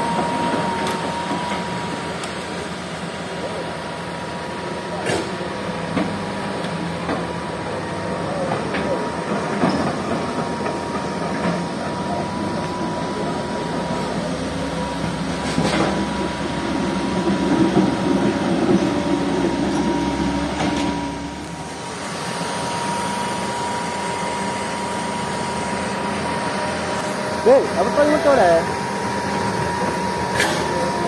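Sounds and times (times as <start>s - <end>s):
diesel engines running: 0.0s - 31.0s.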